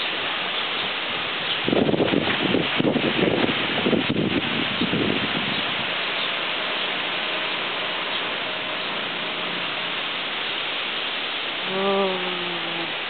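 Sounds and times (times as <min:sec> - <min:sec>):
storm rain: 0:00.0 - 0:13.0
wind: 0:00.0 - 0:13.0.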